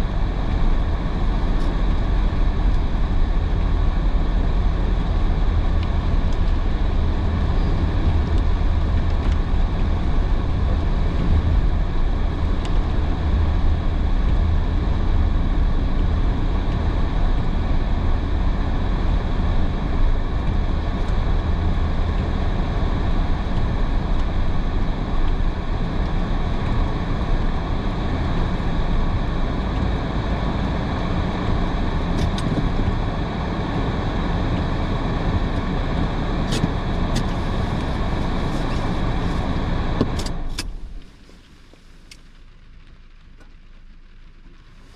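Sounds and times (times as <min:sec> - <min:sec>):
tyres on wet road: 0:00.0 - 0:44.9.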